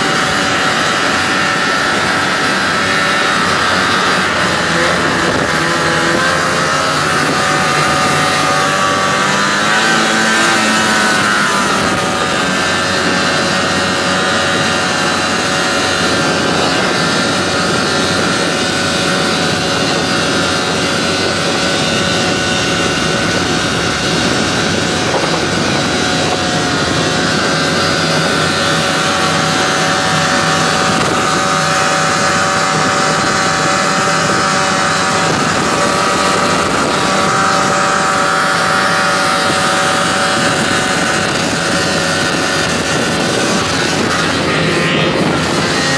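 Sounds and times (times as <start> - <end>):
snowmobile engines running: 0.0 - 45.9.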